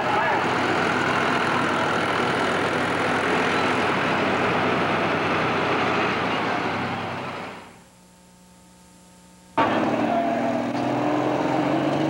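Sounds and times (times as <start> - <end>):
tractor diesel engines running: 0.0 - 7.8, 9.6 - 12.0.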